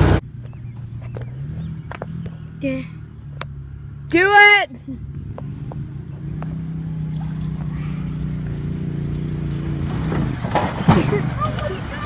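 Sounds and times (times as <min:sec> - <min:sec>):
rush of passing vehicle: 0:00.0 - 0:12.0
utility vehicle engine running: 0:00.0 - 0:12.0.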